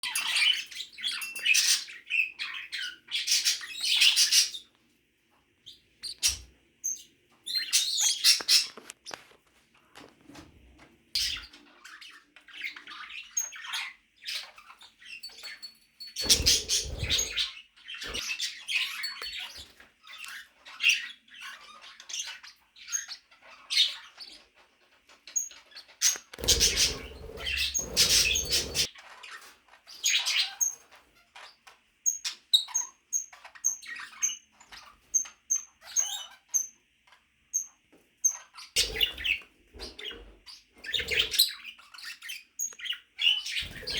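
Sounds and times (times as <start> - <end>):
birds chirping and chattering: 0.0 - 4.7, 5.7 - 9.3, 11.1 - 43.9.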